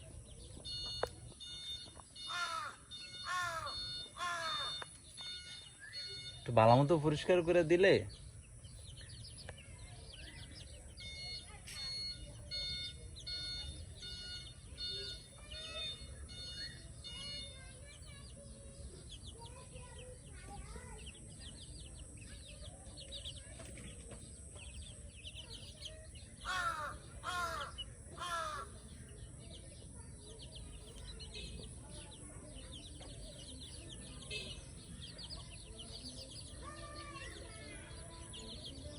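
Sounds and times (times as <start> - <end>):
loud bird calls: 0.0 - 38.9
small birds chirping: 0.0 - 38.9.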